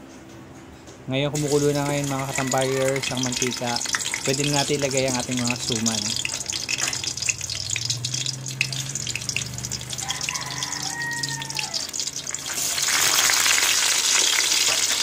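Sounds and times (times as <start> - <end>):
oil sizzling in a frying pan: 1.4 - 15.0.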